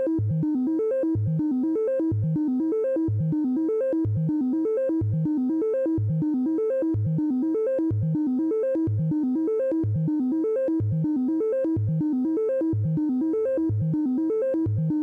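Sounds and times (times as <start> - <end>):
synthesizer repeating pattern: 0.0 - 15.0.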